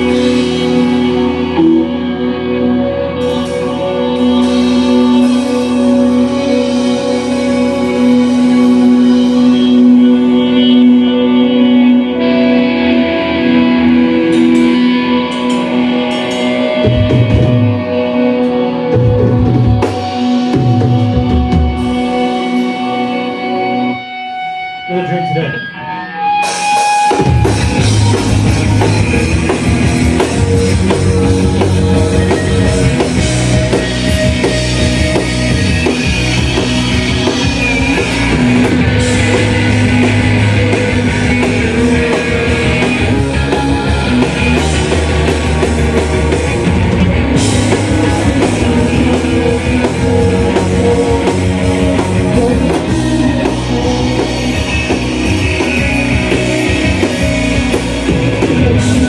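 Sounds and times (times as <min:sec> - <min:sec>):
rock band playing loud: 0:00.0 - 0:59.0.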